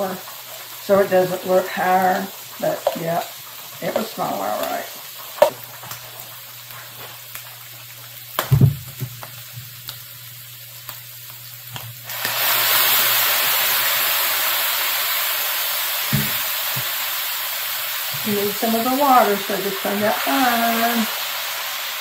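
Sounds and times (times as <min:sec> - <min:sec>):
shrimp sizzling in skillet: 0:00.0 - 0:22.0.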